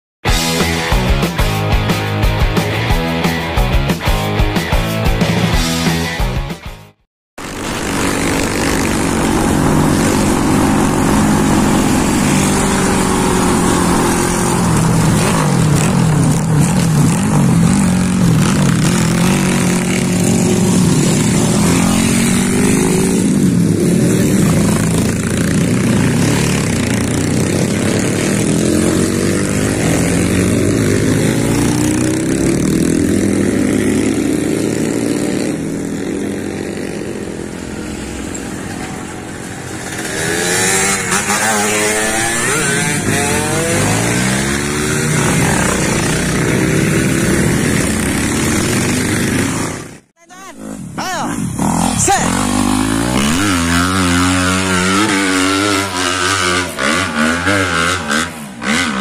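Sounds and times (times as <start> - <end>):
motorcycle engine running: 7.4 - 59.0.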